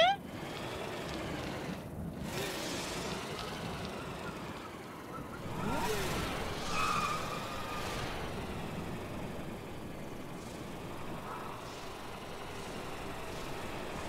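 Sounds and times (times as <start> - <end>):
cartoon truck engine: 0.0 - 14.0.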